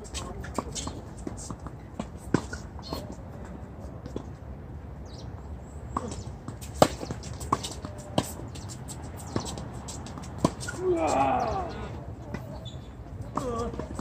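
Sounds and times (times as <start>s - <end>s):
tennis balls struck by rackets: 0.0s - 4.3s, 5.9s - 14.0s.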